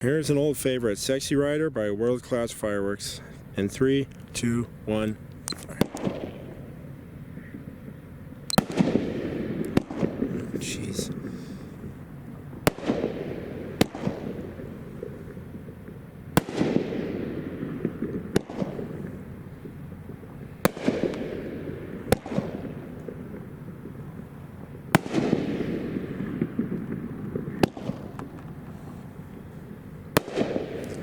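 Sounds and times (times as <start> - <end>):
rushing firework tails: 3.2 - 31.0
firework shells banging: 3.3 - 31.0.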